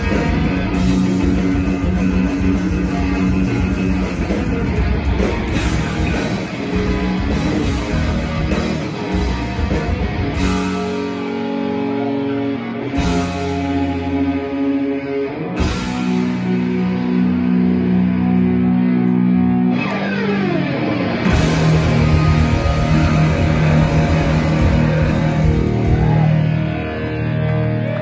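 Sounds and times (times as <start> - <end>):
held guitar chords: 0.0 - 28.0
live rock band playing: 0.0 - 28.0.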